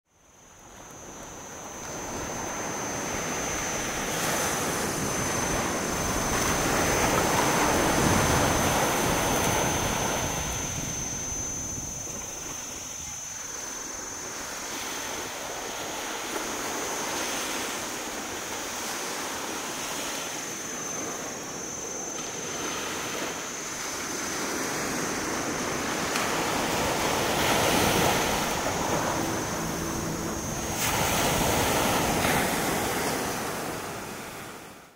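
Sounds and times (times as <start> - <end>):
small waves breaking on beach: 0.2 - 34.9.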